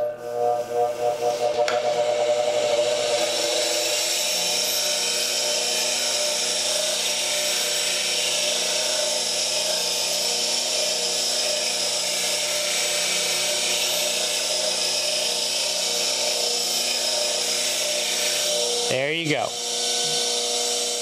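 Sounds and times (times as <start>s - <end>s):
bench grinder grinding steel: 0.0s - 21.0s
grinder motor hum: 0.0s - 21.0s.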